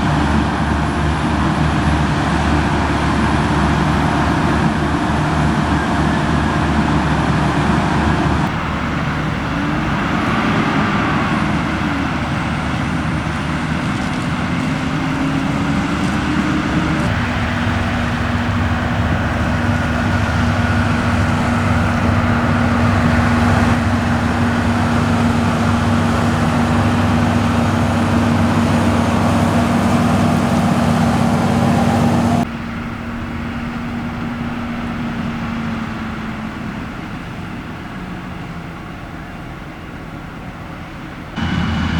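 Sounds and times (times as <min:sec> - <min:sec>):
diesel engines running: 0:00.0 - 0:41.9.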